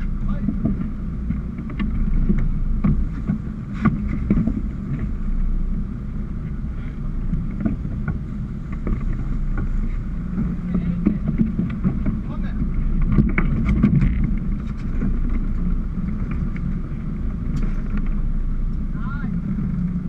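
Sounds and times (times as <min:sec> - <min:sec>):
boat engine rumble: 0:00.0 - 0:20.0
water against hull: 0:00.0 - 0:20.0
wind on microphone: 0:00.0 - 0:20.0.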